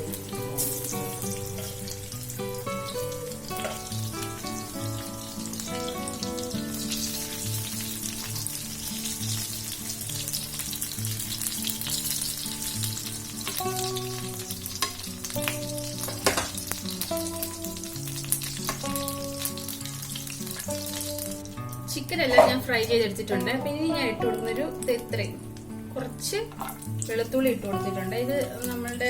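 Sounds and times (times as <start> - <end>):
background music: 0.0 - 29.0
chicken sizzling in hot oil: 0.0 - 29.0.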